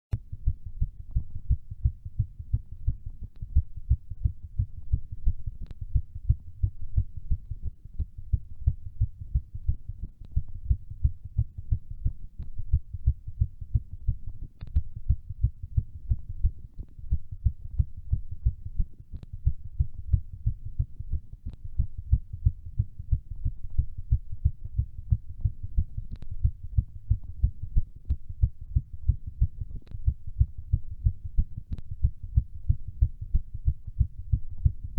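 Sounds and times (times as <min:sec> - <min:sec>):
fast heartbeat thumps: 0:00.2 - 0:34.9.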